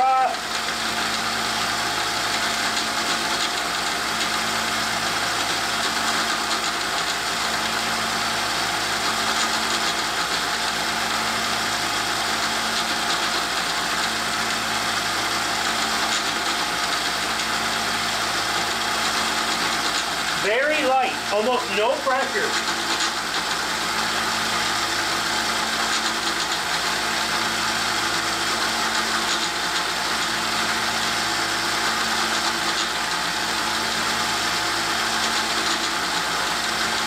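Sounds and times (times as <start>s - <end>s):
belt sander running: 0.3s - 37.0s.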